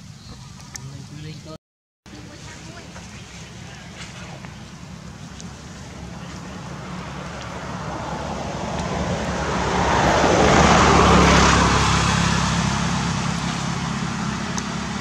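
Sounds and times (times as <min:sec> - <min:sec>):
vehicle passing by: 0:02.4 - 0:15.0.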